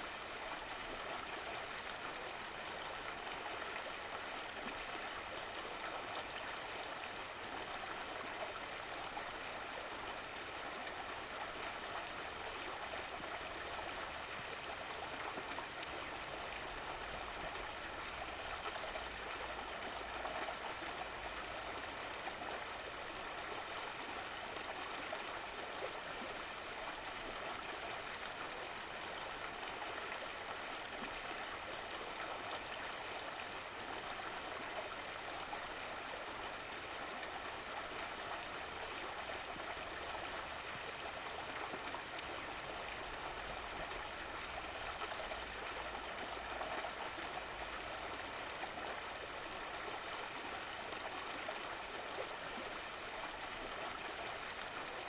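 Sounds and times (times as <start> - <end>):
stream flowing and trickling: 0.0 - 55.0.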